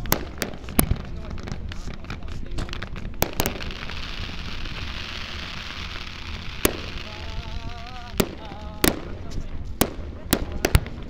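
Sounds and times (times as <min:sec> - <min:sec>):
fireworks bangs: 0:00.0 - 0:11.0
fireworks crackling hiss: 0:00.0 - 0:11.0.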